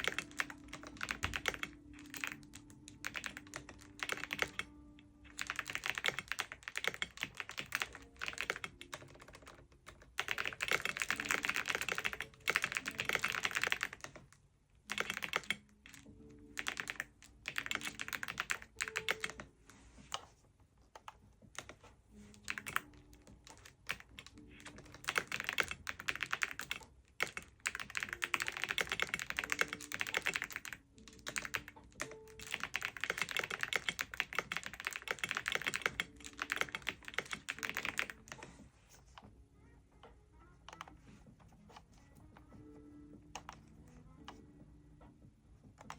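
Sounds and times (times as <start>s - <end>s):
typing on computer keyboard: 0.0s - 19.5s, 20.9s - 38.5s, 43.3s - 44.4s.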